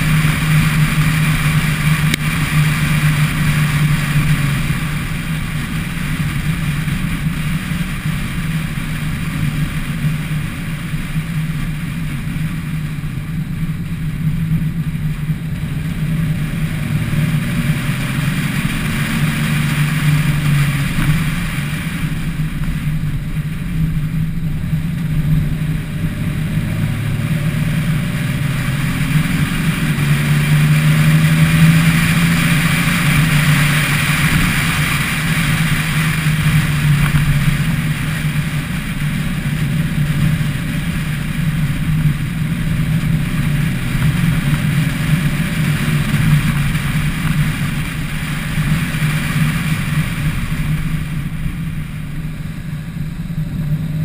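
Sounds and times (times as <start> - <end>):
car engine droning: 0.0 - 54.0
road and wind noise: 0.0 - 54.0.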